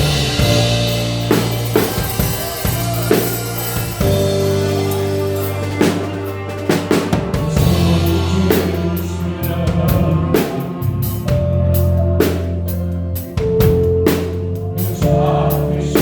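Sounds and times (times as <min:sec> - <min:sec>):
live gospel band: 0:00.0 - 0:16.0.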